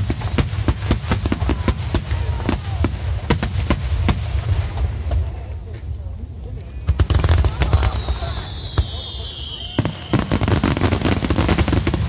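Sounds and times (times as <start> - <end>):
deep rumble of explosions: 0.0 - 12.0
fireworks bursting with sharp bangs: 0.0 - 12.0.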